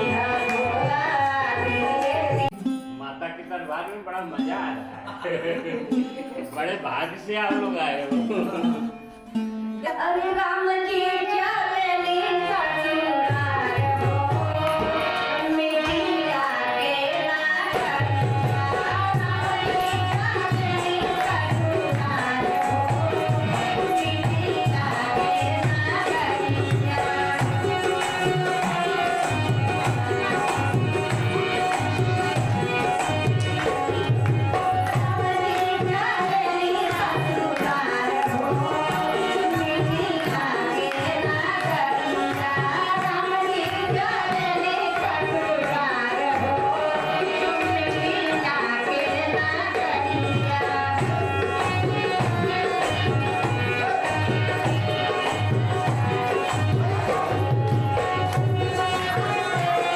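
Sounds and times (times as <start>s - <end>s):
harmonium chords: 0.0s - 59.9s.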